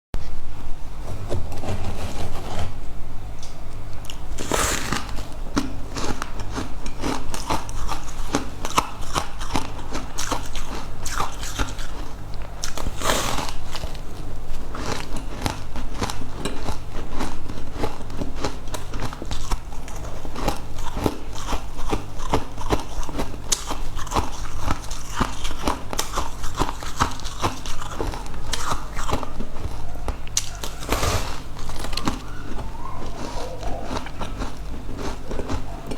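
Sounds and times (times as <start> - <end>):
crunchy fried food chewing: 4.1 - 35.9.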